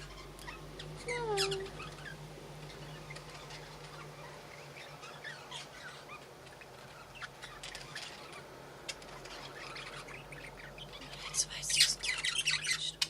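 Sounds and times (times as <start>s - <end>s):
budgerigars chattering: 0.0s - 13.0s
steady low hum: 0.0s - 13.0s.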